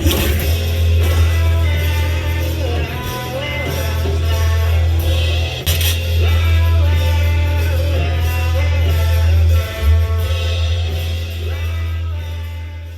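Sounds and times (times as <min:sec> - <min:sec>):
person singing: 0:00.0 - 0:12.9
rock music: 0:00.0 - 0:12.9
sustained bass: 0:00.0 - 0:12.9.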